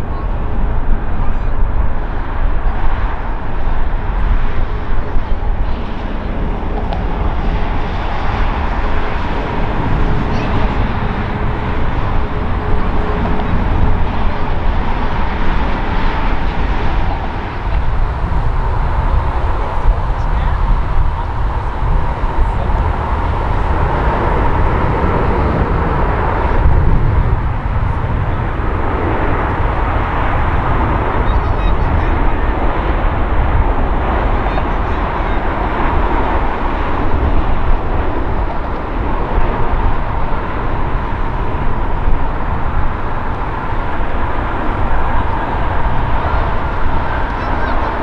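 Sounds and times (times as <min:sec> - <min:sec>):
jet engines landing: 0:00.0 - 0:48.0.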